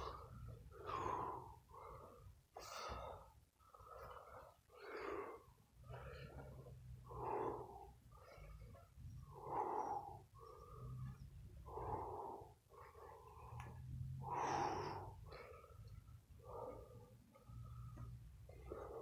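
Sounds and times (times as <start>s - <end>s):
man breathing hard: 0.0s - 19.0s.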